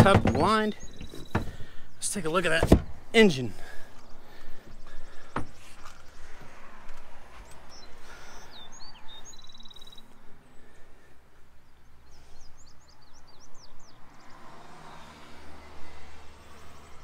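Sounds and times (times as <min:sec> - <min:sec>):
birds chirping: 0:00.0 - 0:15.3.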